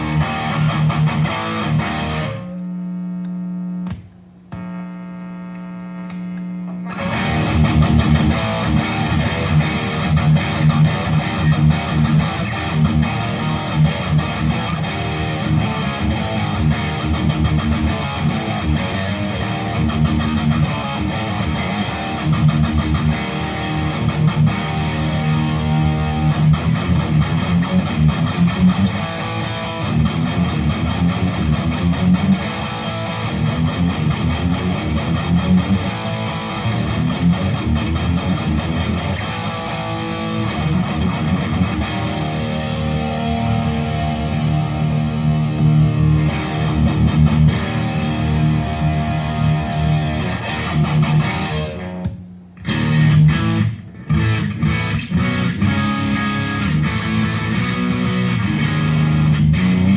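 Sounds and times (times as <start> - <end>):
overdriven electric guitar: 0.0 - 59.9.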